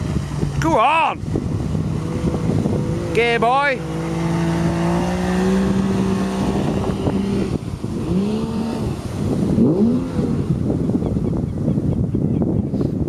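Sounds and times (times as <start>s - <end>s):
water splashing: 0.0s - 11.7s
outboard motor running: 0.0s - 12.6s
wind noise on microphone: 0.0s - 13.0s.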